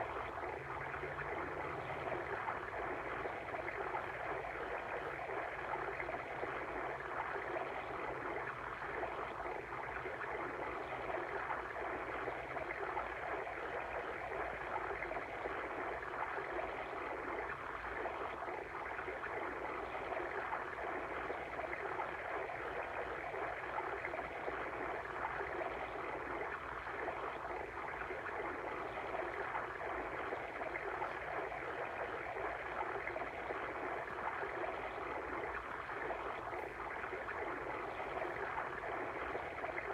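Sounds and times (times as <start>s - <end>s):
water stream bubbling: 0.0s - 39.9s.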